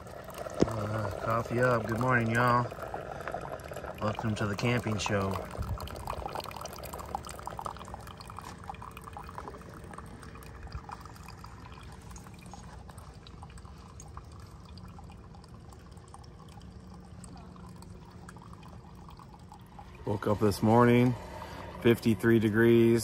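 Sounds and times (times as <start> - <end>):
coffee trickling into mug: 0.0 - 23.0.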